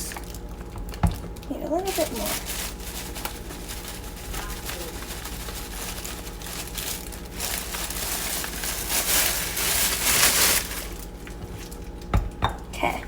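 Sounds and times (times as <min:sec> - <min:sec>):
sugar bag crinkling: 0:00.0 - 0:12.1.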